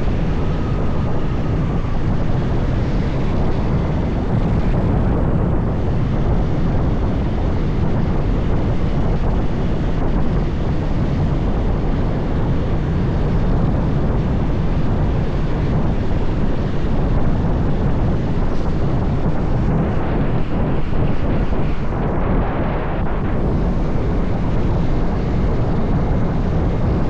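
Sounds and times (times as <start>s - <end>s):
motorbike running: 0.0s - 27.0s
wind noise on microphone: 0.0s - 27.0s.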